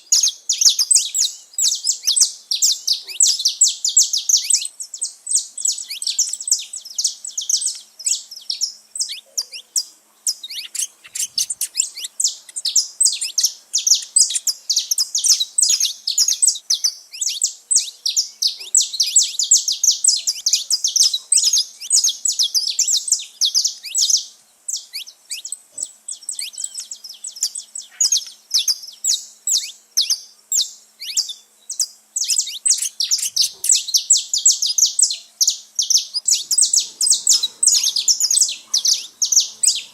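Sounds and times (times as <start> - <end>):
finches singing and chirping: 0.0 - 39.9.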